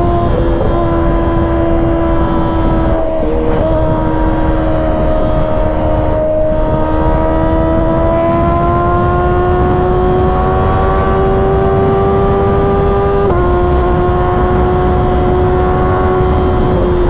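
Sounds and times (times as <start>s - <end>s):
low wind noise: 0.0s - 17.0s
motorcycle engine pulling: 0.0s - 17.0s.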